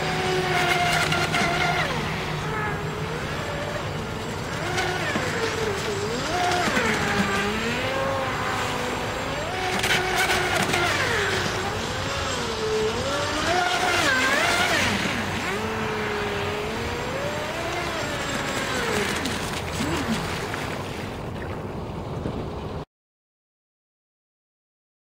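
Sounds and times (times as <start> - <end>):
electric motor whining: 0.0 - 20.5.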